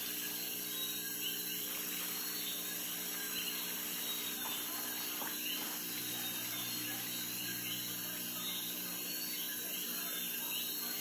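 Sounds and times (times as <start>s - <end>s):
pump electric hum: 0.0s - 11.0s.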